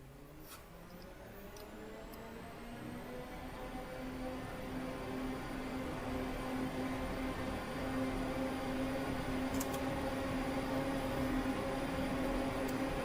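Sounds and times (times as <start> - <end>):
synthesized cooling fan whir: 0.0 - 13.0.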